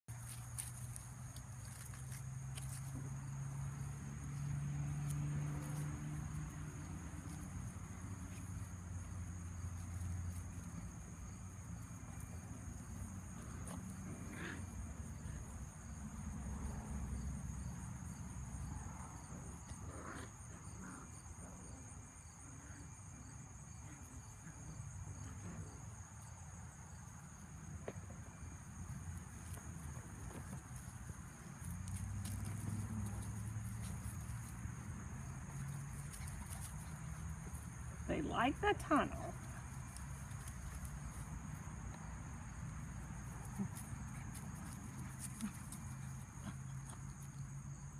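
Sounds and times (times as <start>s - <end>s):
insects chirring: 0.1s - 47.9s.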